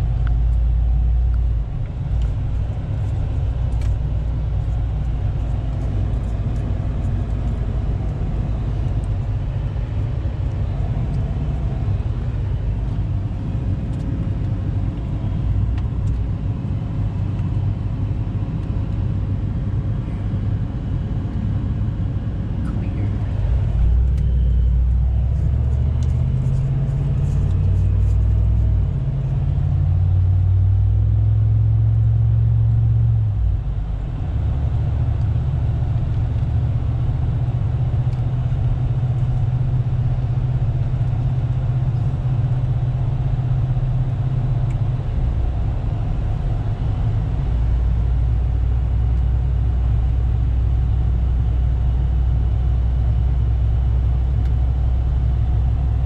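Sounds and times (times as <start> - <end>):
car exhaust drone inside cabin: 0.0 - 56.0.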